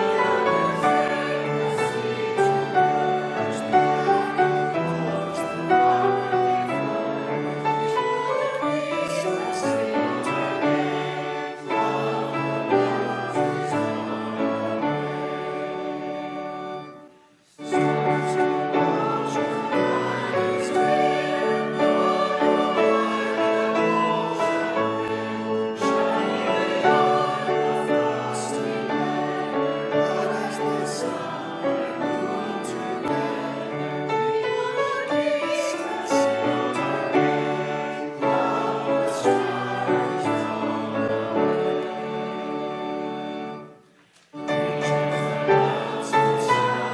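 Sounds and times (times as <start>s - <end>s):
choir singing with accompaniment: 0.0s - 46.9s.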